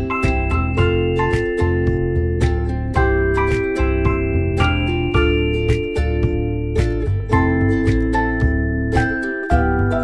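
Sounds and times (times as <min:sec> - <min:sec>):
plucked guitar: 0:00.0 - 0:10.0
steady beat: 0:00.0 - 0:10.0.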